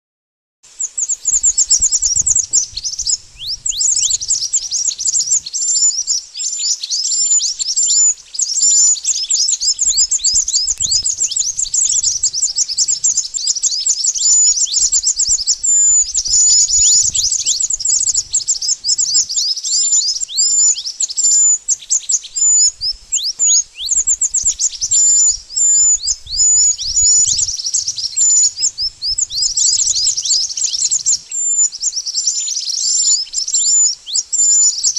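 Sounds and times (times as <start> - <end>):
birds chirping: 0.7 - 34.9.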